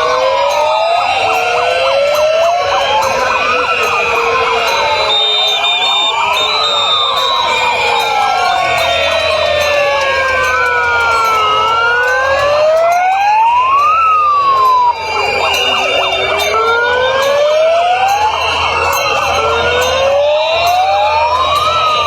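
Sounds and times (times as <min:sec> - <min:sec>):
sirens wailing: 0:00.0 - 0:22.0.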